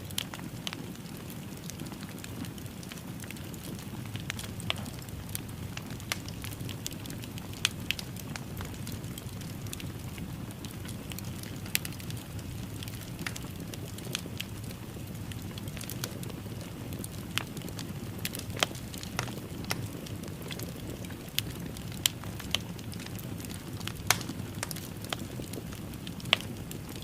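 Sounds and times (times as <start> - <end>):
fire crackling and popping: 0.0 - 27.0
low rush of burning: 0.2 - 25.5.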